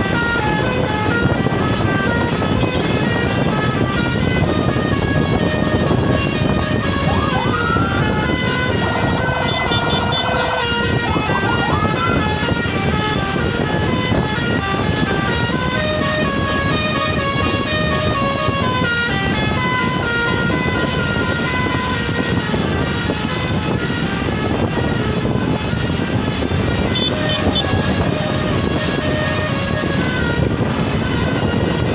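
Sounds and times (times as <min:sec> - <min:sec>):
bus musical air horn: 0:00.0 - 0:31.9
engine and road rumble: 0:00.0 - 0:31.9.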